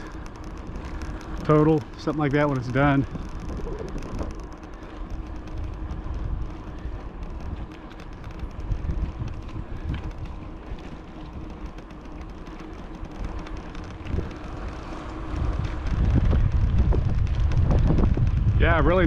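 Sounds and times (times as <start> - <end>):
low rolling rumble: 0.0 - 19.0
wind buffeting microphone: 0.0 - 19.0.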